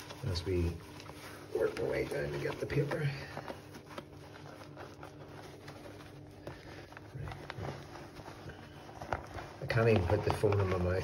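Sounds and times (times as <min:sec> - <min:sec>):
soft clicks and rustles: 0:00.0 - 0:11.0
wet sock handling noise: 0:00.0 - 0:11.0.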